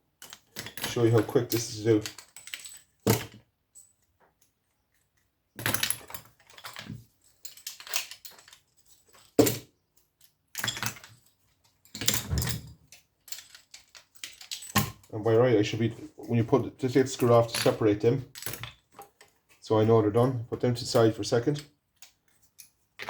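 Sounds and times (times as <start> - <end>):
small metal parts clinking: 0.1 - 15.2, 17.0 - 19.6, 20.8 - 23.0.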